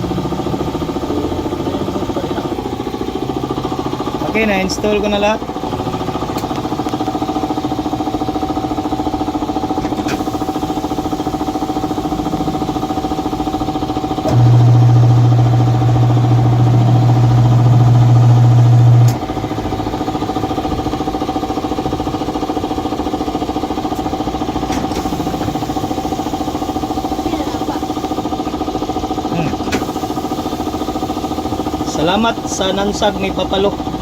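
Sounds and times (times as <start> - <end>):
loud low electric motor hum: 0.0 - 34.0
machine droning: 0.0 - 34.0.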